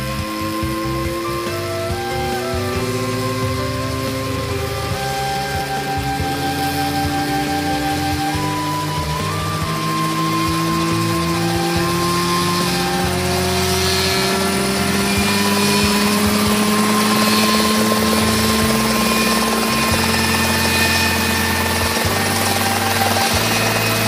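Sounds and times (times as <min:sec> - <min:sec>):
helicopter engine and rotors rising: 0:00.0 - 0:24.0.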